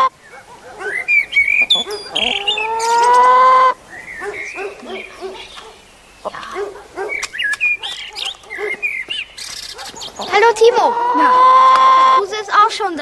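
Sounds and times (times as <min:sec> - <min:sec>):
hen clucking softly: 0:00.0 - 0:08.8, 0:09.4 - 0:12.2
hen calling: 0:00.0 - 0:13.0
small birds chirping: 0:00.0 - 0:13.0.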